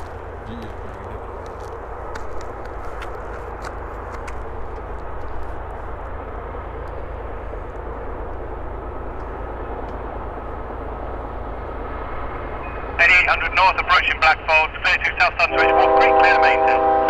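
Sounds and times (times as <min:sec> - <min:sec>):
distant diesel locomotives rumbling: 0:00.0 - 0:17.0.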